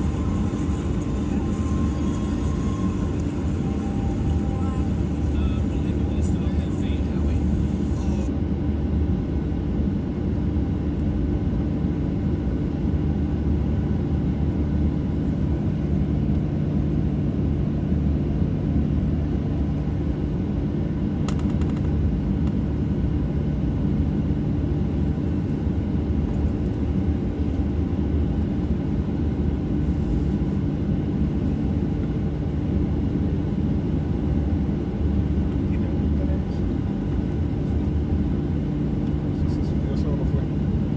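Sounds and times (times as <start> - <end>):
jet engines idling low rumble: 0.0 - 40.9
steady tonal hum: 0.0 - 40.9.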